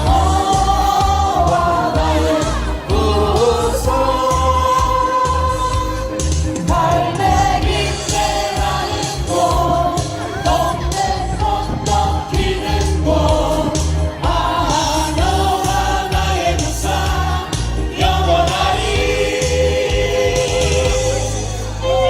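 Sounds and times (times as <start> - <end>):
backing track with bass beat: 0.0 - 22.0
choir singing: 0.0 - 22.0.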